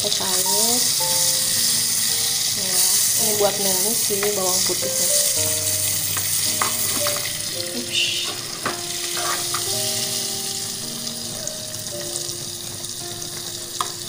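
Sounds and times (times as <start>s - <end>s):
margarine sizzling in saucepan: 0.0s - 14.0s.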